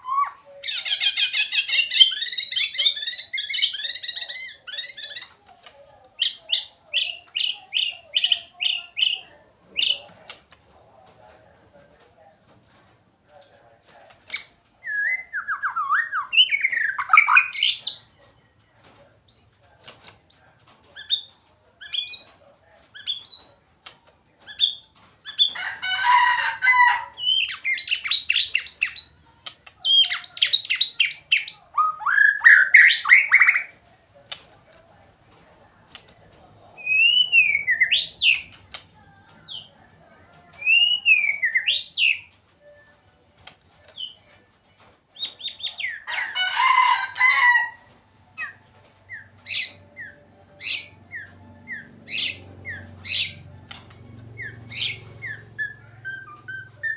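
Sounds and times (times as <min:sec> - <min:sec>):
bird singing varied song: 0:00.0 - 0:18.2, 0:20.3 - 0:25.6, 0:26.8 - 0:33.8, 0:36.7 - 0:39.8, 0:40.5 - 0:46.3, 0:48.2 - 0:56.9.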